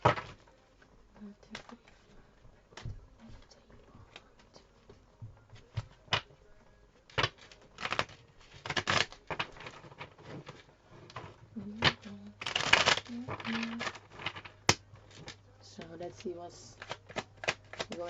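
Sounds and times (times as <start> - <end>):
cards being shuffled: 0.0 - 6.4, 7.1 - 18.0.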